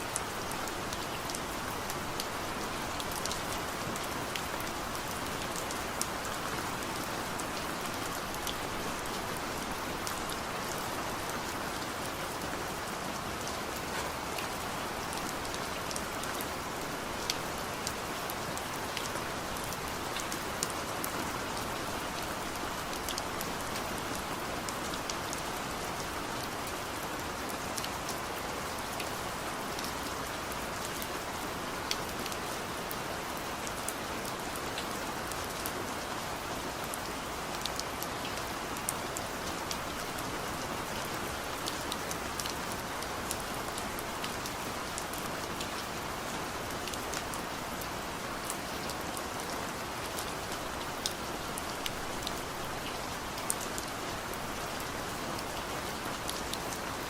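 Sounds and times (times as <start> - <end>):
raindrops ticking on a surface: 0.1 - 57.0.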